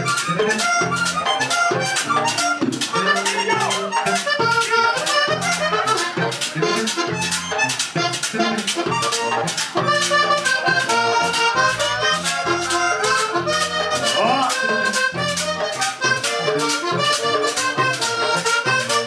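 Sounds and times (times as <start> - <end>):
button accordion fast melody: 0.0 - 19.0
pulsing bass: 0.0 - 19.0
scraped percussion rhythm: 0.0 - 19.0.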